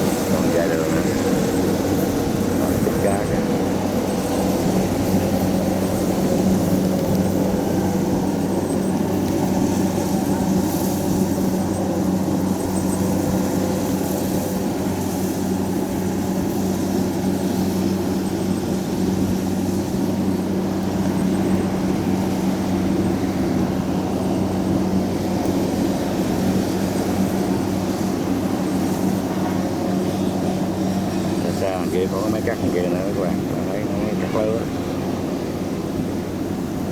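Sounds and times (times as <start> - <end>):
combine harvester diesel engine drone: 0.0 - 36.9.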